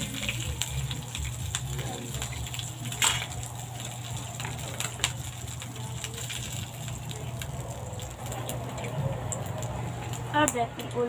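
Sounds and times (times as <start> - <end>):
gas burner low hum: 0.0 - 11.0
oil crackling in a hot wok: 0.0 - 11.0.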